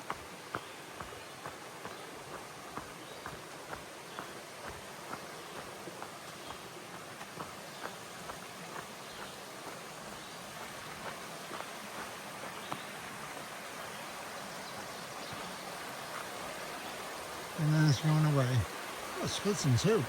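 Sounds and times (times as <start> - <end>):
creek running: 0.0 - 20.0.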